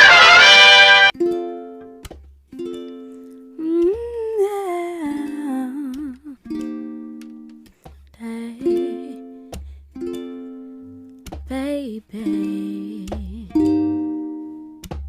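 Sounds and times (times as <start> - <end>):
slow song with plucked guitar: 1.2 - 15.0.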